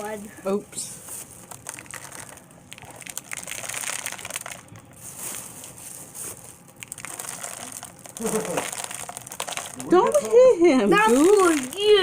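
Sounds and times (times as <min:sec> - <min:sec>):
birdseed rustling and crackling: 0:01.0 - 0:12.0.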